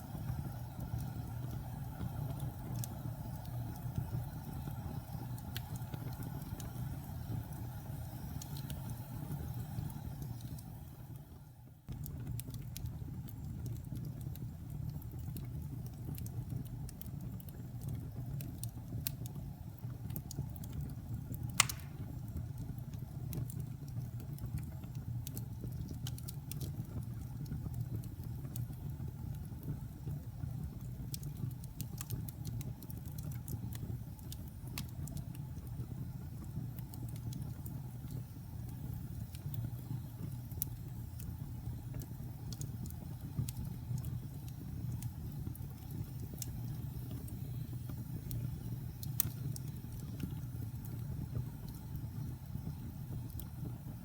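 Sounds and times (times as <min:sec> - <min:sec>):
fire crackling: 0:00.0 - 0:54.0
wood fire roaring: 0:00.0 - 0:54.0.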